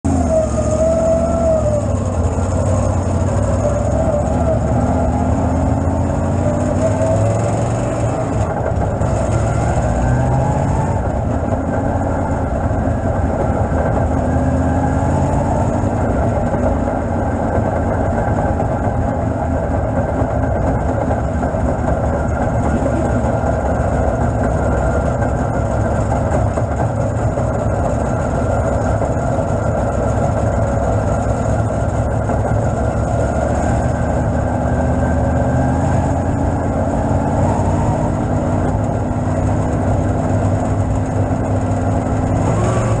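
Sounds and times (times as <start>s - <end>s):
race car engine running: 0.0s - 43.0s.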